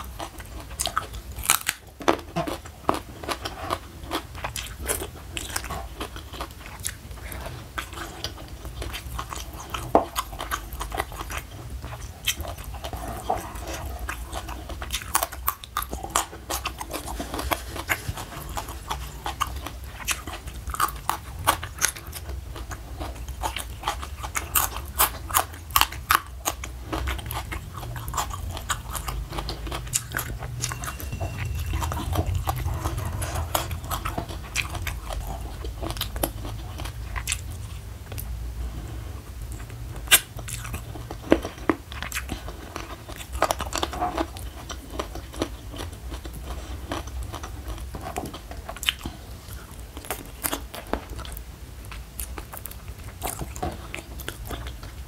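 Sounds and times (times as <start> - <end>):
steady low hum: 0.0 - 55.0
wet chewing and crunching: 0.0 - 55.0.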